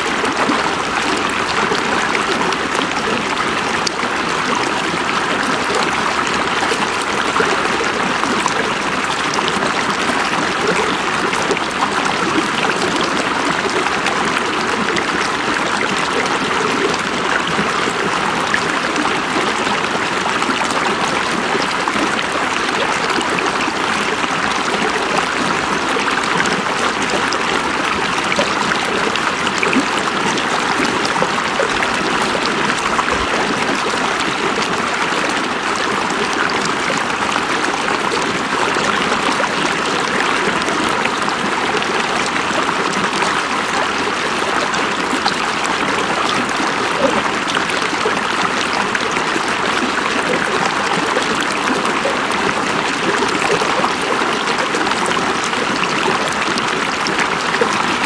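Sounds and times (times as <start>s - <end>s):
river water babbling over stones: 0.0s - 58.0s.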